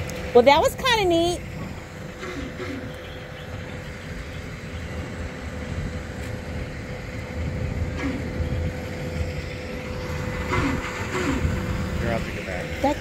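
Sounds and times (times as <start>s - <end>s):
thin steady whine: 0.0s - 13.0s
truck engine rumbling: 0.0s - 13.0s.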